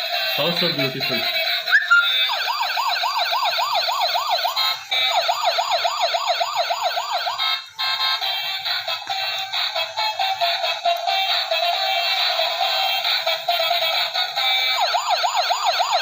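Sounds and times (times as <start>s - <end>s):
toy electronic music: 0.0s - 16.0s
toy siren warbling wail: 1.3s - 16.0s.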